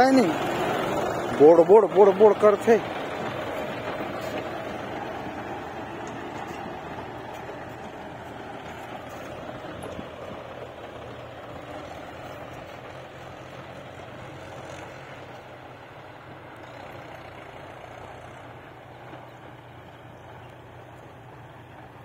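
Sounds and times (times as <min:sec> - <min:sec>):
tractor engines running: 0:00.0 - 0:22.0.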